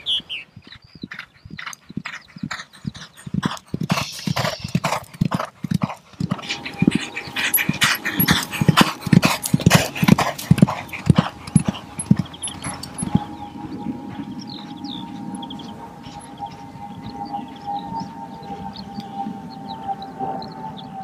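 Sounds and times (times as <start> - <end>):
horse hoofbeats galloping: 0.0 - 21.0.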